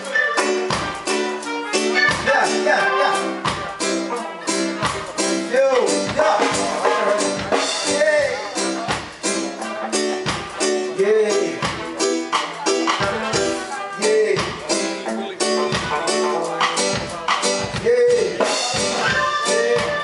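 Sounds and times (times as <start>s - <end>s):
person singing: 0.0s - 20.0s
reggae band playing: 0.0s - 20.0s.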